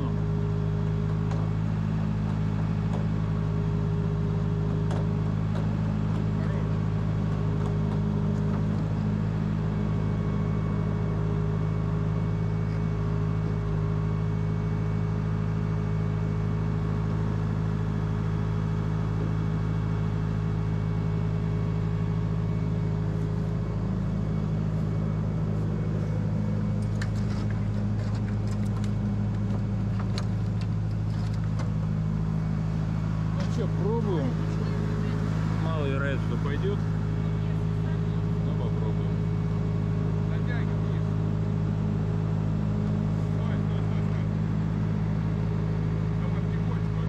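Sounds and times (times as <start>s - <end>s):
truck engine idling: 0.0s - 47.0s.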